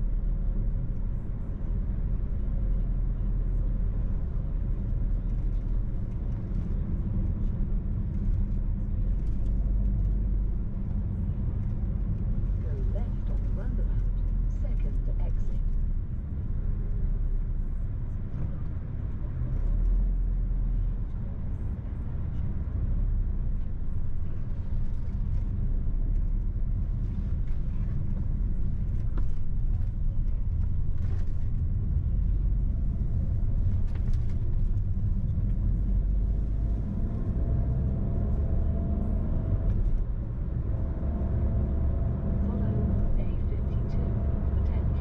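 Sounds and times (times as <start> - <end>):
car driving on road: 0.0 - 45.0.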